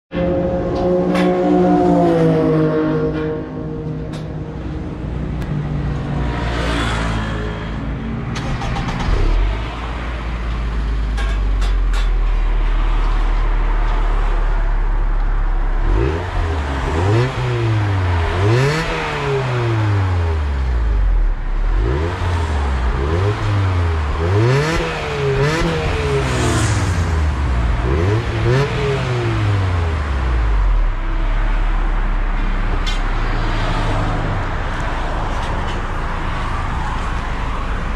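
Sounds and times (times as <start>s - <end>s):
car engine idling and revving: 0.1s - 37.9s.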